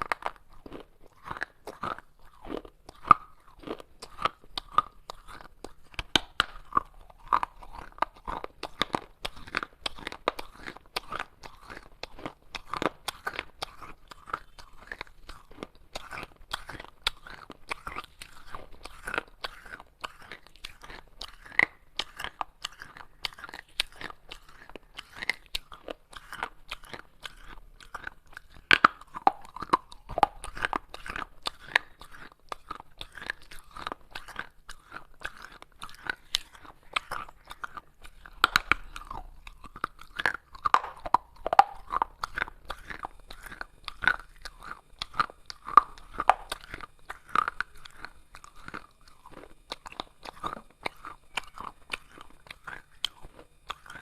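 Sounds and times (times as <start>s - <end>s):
chewing gritty clay crunches: 0.0s - 54.0s.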